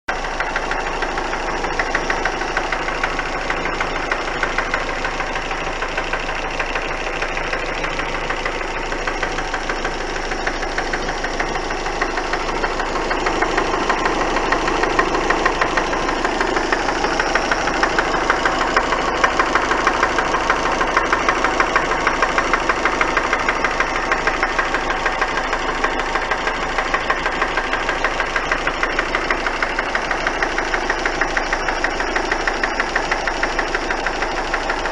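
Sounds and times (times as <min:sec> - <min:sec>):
car engine knocking tick: 0:00.1 - 0:34.9.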